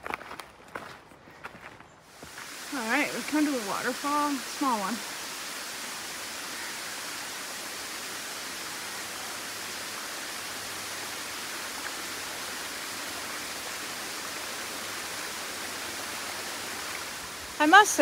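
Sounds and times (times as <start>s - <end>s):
waterfall hissing: 2.1s - 18.0s.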